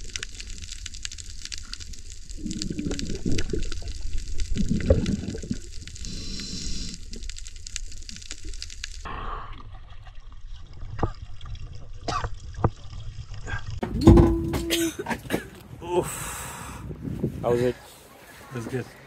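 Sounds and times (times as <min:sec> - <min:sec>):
water sloshing and bubbling: 0:00.0 - 0:15.7.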